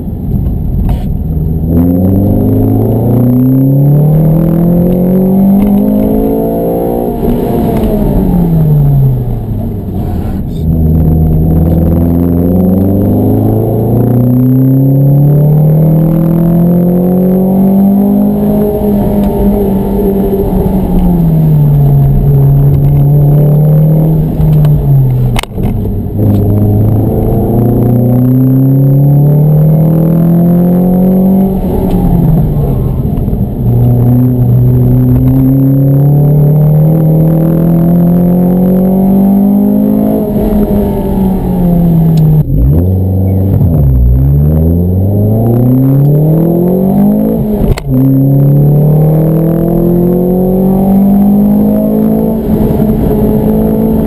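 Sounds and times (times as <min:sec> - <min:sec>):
car engine revving through gears: 0:00.8 - 0:54.0.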